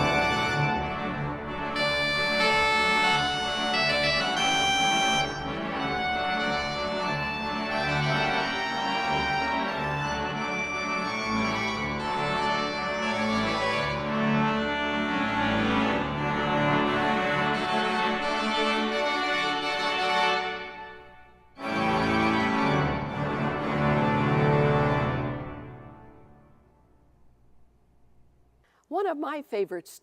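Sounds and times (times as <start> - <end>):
pipe organ playing chords: 0.0 - 26.7.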